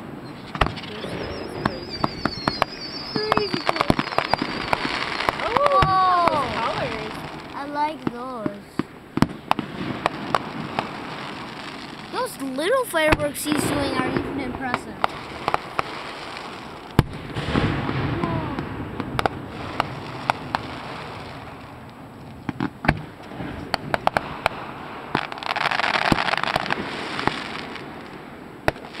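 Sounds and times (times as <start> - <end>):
fireworks popping and banging: 0.0 - 29.0
firework hiss: 0.3 - 29.0.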